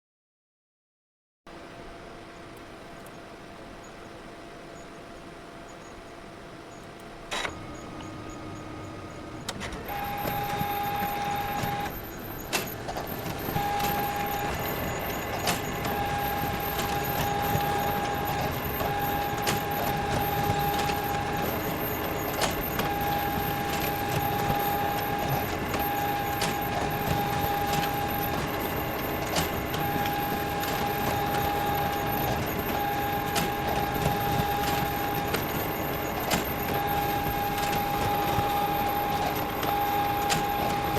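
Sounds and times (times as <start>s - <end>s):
photocopier running: 7.1s - 40.9s.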